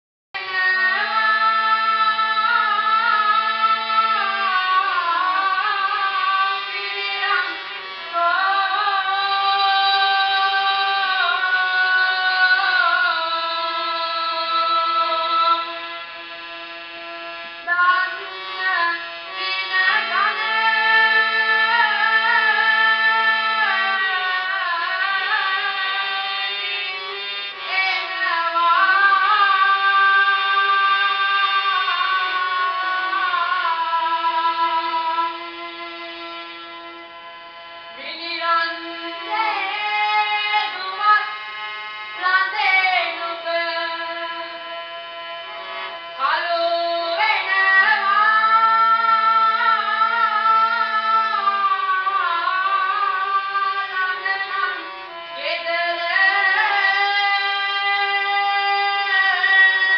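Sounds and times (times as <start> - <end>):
boy singing into microphone: 0.4 - 16.2, 17.7 - 36.2, 38.0 - 59.9.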